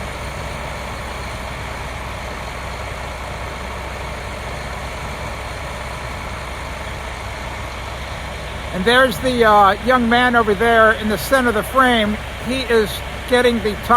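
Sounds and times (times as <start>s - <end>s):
diesel truck engines droning: 0.0s - 13.9s.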